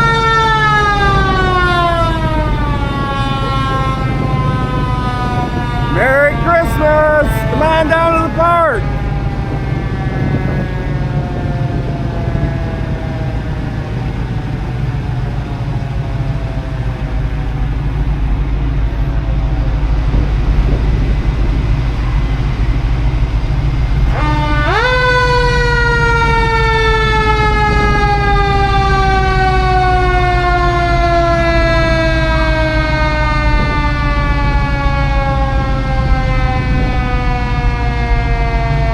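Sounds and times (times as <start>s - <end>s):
engine and road rumble: 0.0s - 38.9s.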